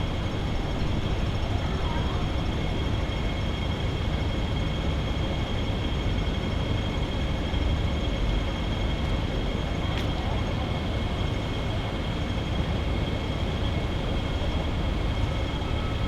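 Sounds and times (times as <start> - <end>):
machinery rumble and hum: 0.0 - 16.0.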